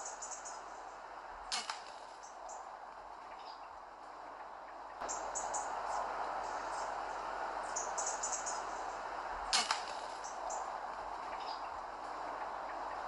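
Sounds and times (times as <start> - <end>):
outdoor hiss: 0.0 - 13.0.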